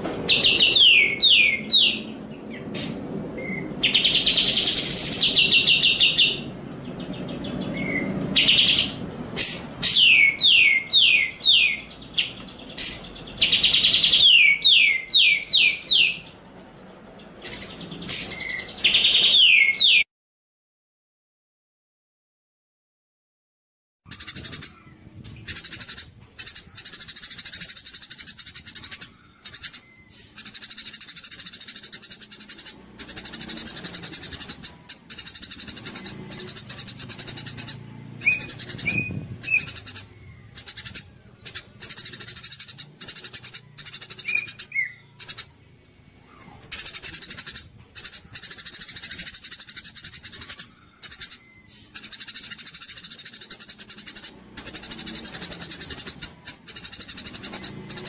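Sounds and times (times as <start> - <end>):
lower bird chirps: 0.0 - 20.1, 24.1 - 58.0
songbird chattering song: 0.0 - 20.1, 24.1 - 58.0.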